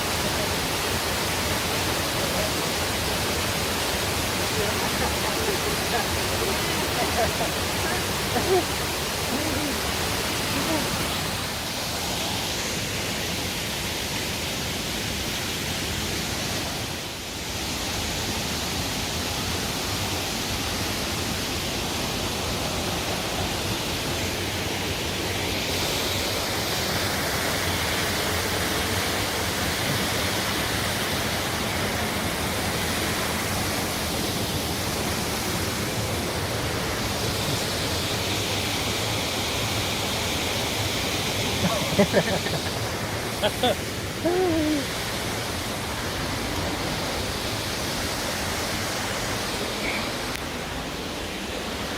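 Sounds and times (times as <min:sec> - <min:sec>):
rushing water: 0:00.0 - 0:51.9.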